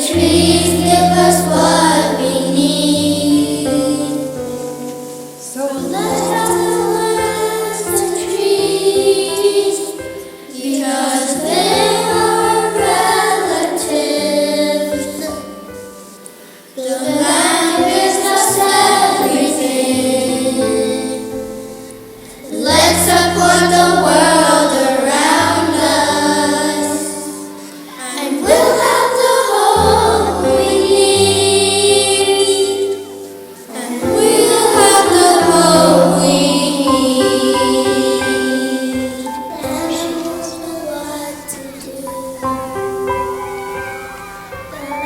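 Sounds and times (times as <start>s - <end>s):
voices singing a song: 0.0s - 45.0s.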